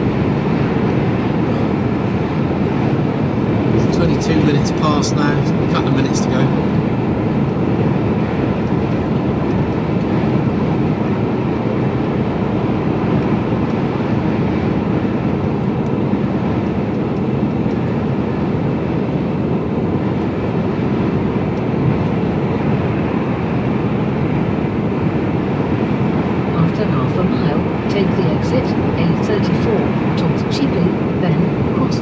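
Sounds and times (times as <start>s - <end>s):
lorry engine and road noise: 0.0s - 32.0s.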